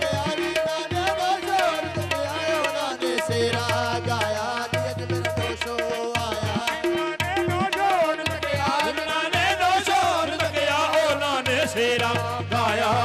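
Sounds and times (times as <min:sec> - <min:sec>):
tabla drumming: 0:00.0 - 0:13.0.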